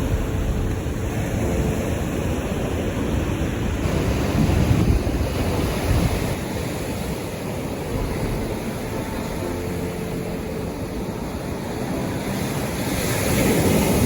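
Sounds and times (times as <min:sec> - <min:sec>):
surf washing on beach: 0:00.0 - 0:14.0
wind buffeting microphone: 0:00.0 - 0:14.0.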